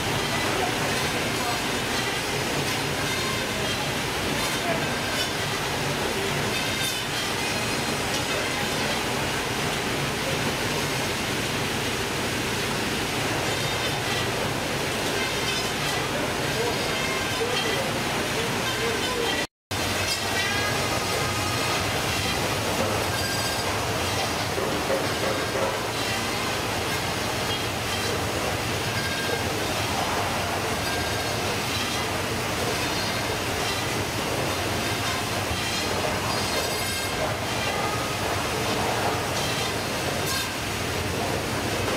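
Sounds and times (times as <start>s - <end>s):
machinery and conveyor belts rushing: 0.0s - 41.9s.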